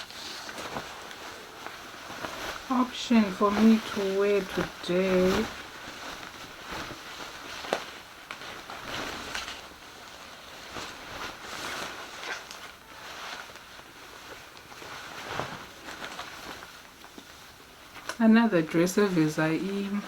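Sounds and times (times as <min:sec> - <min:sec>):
clothes rustling: 0:00.0 - 0:20.0
plastic packaging rustling: 0:00.0 - 0:20.0.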